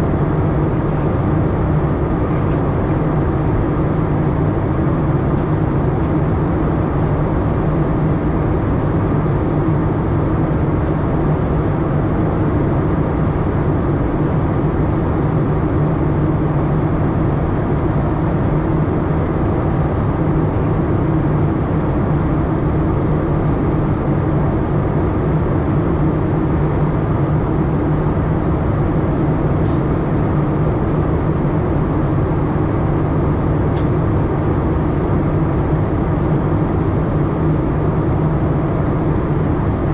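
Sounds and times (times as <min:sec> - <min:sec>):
airliner cabin hum: 0:00.0 - 0:39.9
jet engine noise: 0:00.0 - 0:39.9.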